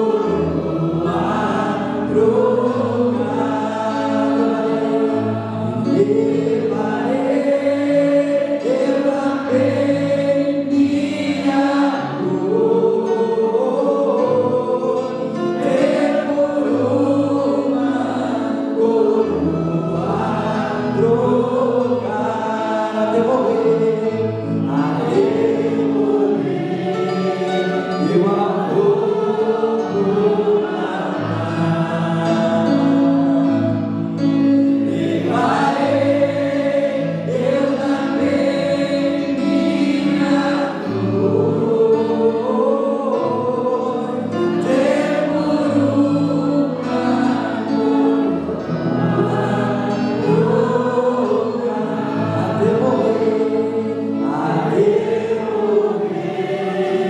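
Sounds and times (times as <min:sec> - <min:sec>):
people singing gospel song: 0:00.0 - 0:57.0.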